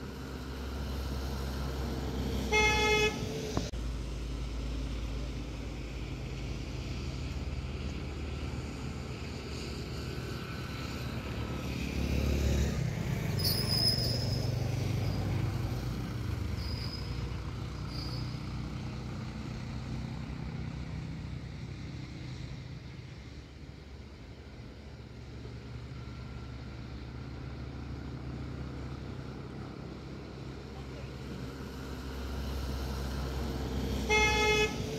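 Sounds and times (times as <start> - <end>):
vehicle engine hum: 0.0 - 34.9.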